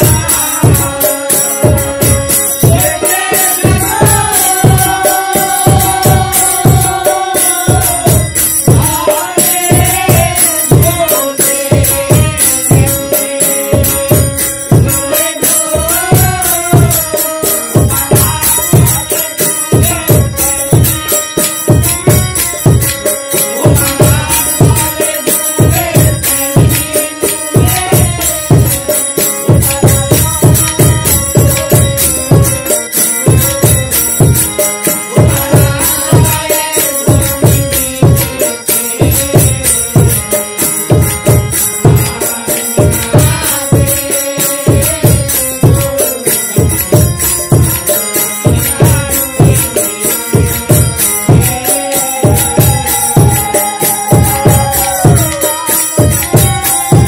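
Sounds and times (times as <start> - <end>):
harmonium: 0.0 - 57.0
person singing: 0.0 - 57.0.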